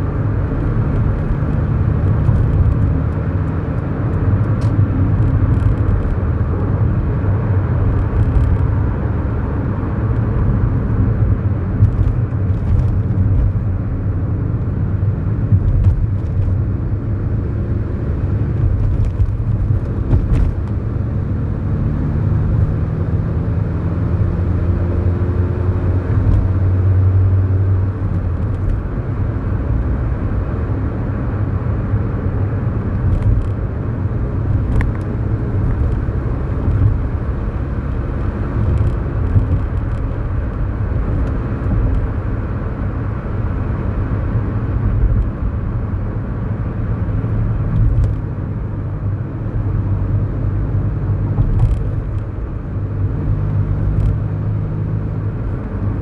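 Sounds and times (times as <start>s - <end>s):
tyre and road rumble: 0.0s - 56.0s.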